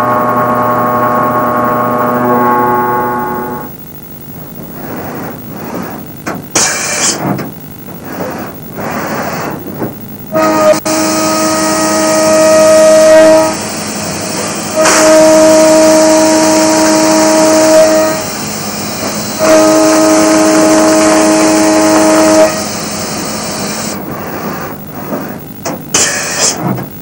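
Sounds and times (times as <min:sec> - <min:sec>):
continuous machine hiss: 0:00.0 - 0:27.0
machine whining tone: 0:00.0 - 0:27.0.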